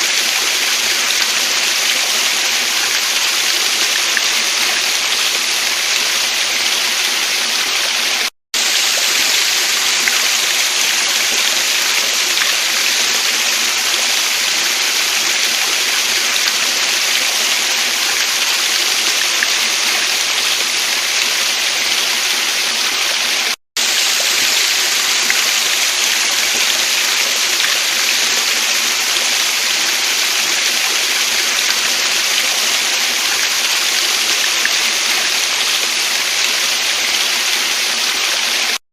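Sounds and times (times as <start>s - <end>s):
waterfall and stream rushing: 0.0s - 38.8s.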